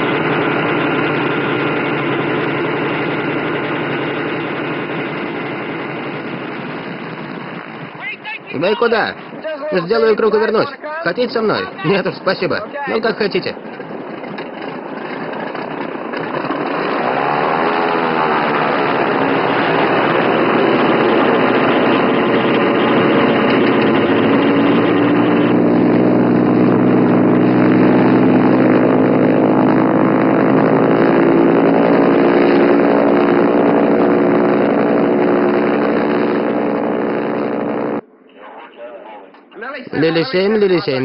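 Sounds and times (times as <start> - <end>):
propeller plane engine drone: 0.0 - 41.0.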